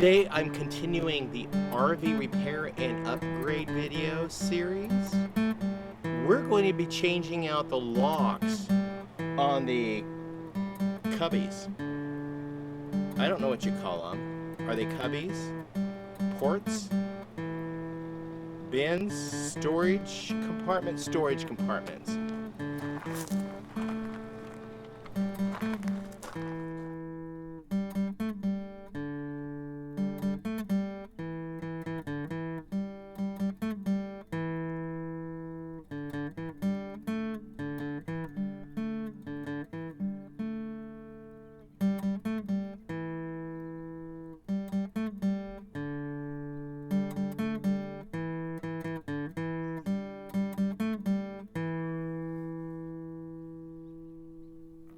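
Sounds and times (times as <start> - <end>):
solo acoustic guitar: 0.0 - 54.9.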